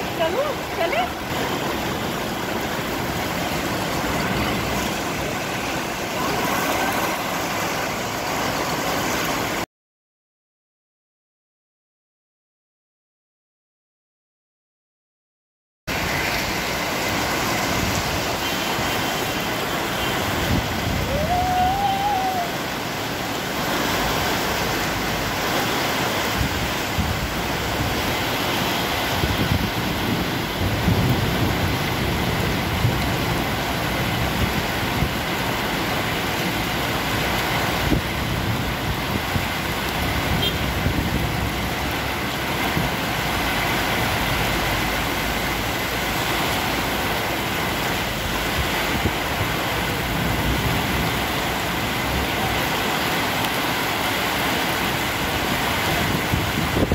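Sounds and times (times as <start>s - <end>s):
heavy rain pouring: 0.0s - 9.7s, 15.9s - 56.9s.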